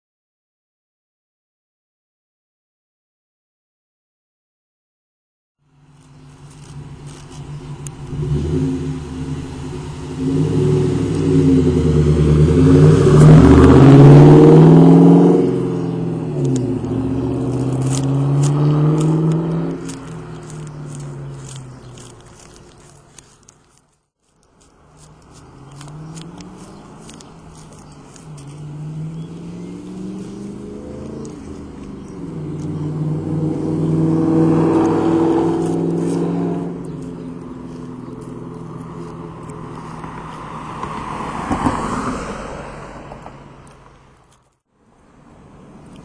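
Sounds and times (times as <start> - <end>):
car engine accelerating: 5.7 - 23.5, 24.8 - 43.9.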